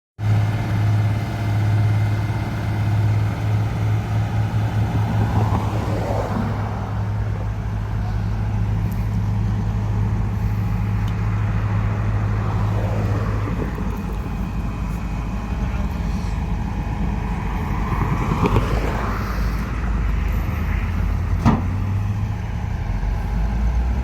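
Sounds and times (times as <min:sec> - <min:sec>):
diesel construction machinery running: 0:00.2 - 0:24.0.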